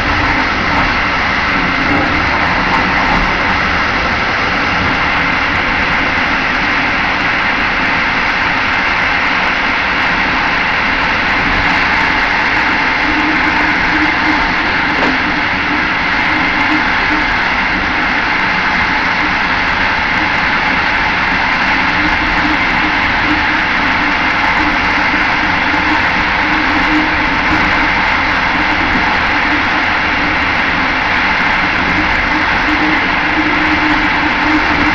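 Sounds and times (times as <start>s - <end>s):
faint steady hum: 0.0s - 34.9s
train wheels rumbling on rail: 0.0s - 34.9s.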